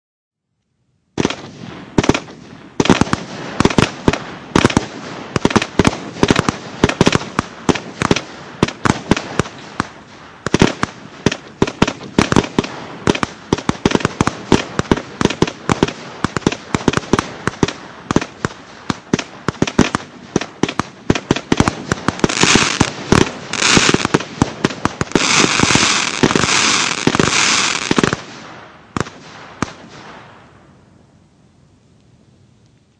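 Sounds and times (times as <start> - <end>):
firework bangs: 1.2 - 30.7
firework crackling: 1.2 - 30.7.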